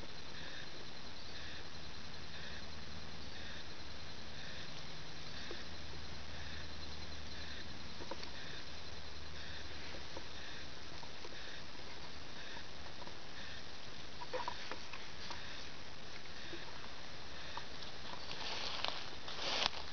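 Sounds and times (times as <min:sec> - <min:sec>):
faint distant chorus: 0:00.0 - 0:19.9
grass rustling: 0:03.3 - 0:19.9.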